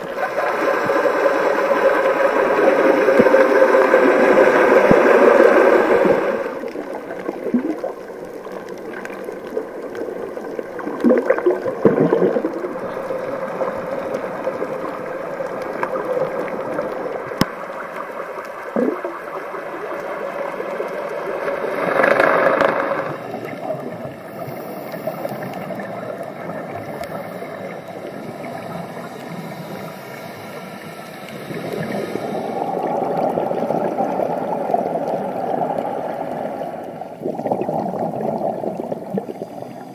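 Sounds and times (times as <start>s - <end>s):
steady water hiss: 0.0s - 39.9s
underwater exhaled bubbles gurgling: 0.0s - 39.9s.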